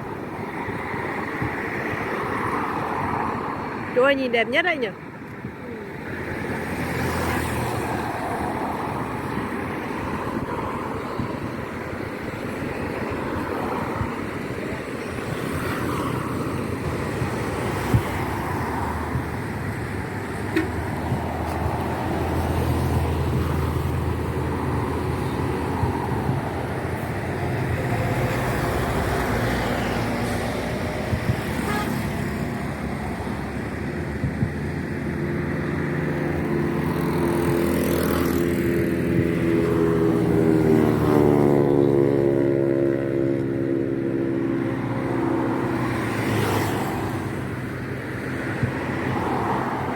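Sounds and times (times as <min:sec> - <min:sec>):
street traffic noise: 0:00.0 - 0:49.9.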